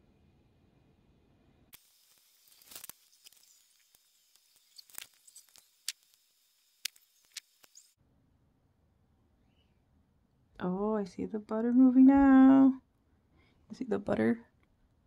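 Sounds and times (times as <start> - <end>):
low room background: 0.0 - 15.0.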